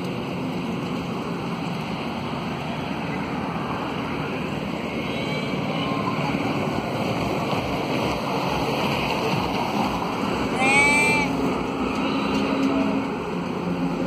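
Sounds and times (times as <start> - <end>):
rushing background noise: 0.0 - 14.0.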